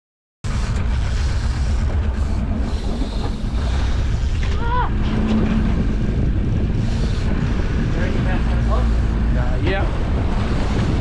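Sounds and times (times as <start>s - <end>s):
boat engine running: 0.4s - 11.0s
wind on microphone: 0.5s - 11.0s.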